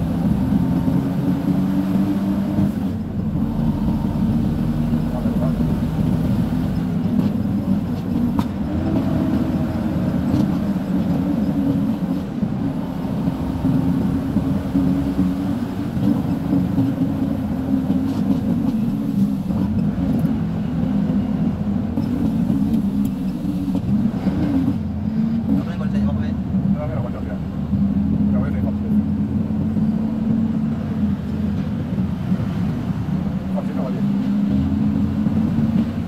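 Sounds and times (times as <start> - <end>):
road noise: 0.0 - 36.0
truck engine running: 0.0 - 36.0.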